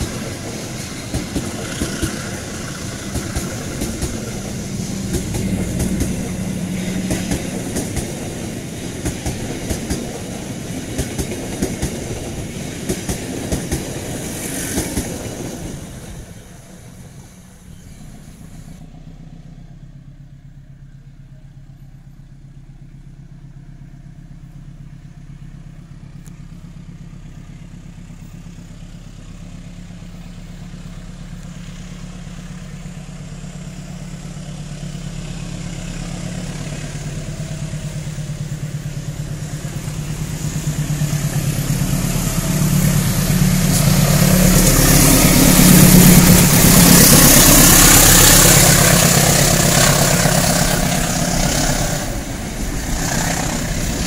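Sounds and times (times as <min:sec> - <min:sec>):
locomotive engine drone: 0:00.0 - 0:54.0
rail and wheel noise: 0:00.0 - 0:54.0.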